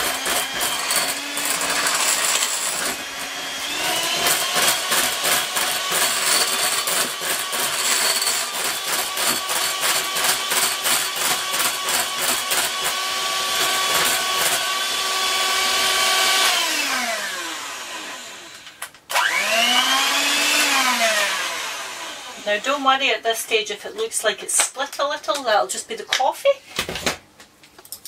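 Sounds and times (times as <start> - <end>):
electric hand mixer whining: 0.0 - 23.0.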